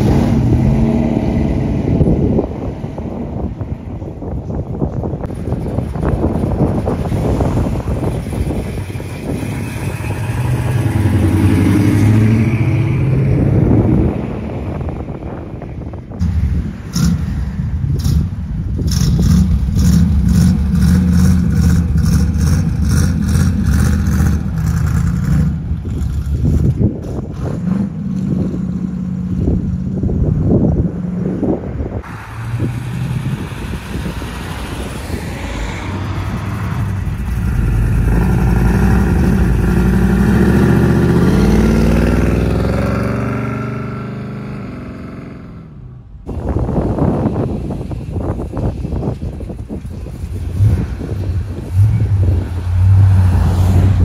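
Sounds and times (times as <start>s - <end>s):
car engines running: 0.0s - 54.0s
wind noise on microphone: 0.0s - 54.0s.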